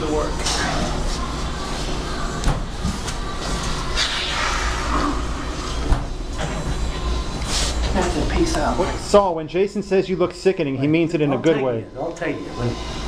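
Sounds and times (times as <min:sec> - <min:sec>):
room noise rumble and hiss: 0:00.0 - 0:13.0.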